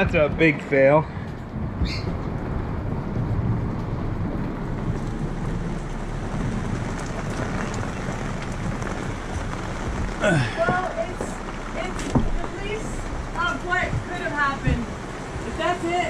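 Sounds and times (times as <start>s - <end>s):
rain on a boat: 0.0s - 16.0s
wind: 0.0s - 16.0s.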